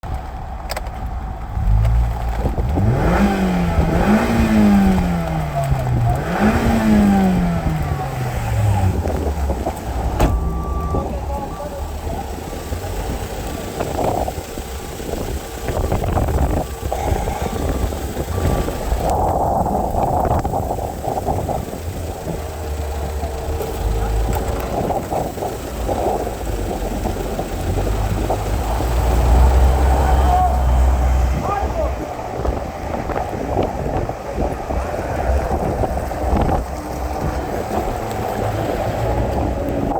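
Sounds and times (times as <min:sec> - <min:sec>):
car engine revving: 0:00.1 - 0:39.9.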